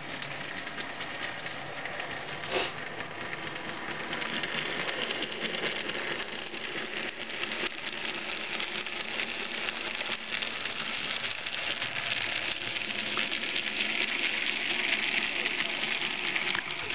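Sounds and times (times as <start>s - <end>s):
model train motor whirring: 0.0s - 16.9s
wheels clicking over rail joints: 0.0s - 16.9s.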